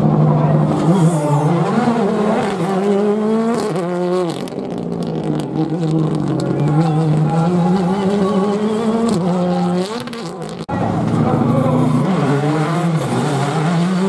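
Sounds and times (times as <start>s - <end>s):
rally car engine at full throttle: 0.0s - 14.0s
exhaust crackles: 0.3s - 14.0s.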